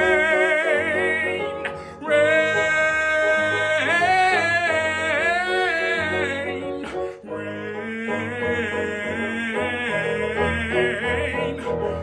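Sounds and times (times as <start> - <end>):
person singing long notes: 0.0 - 12.0.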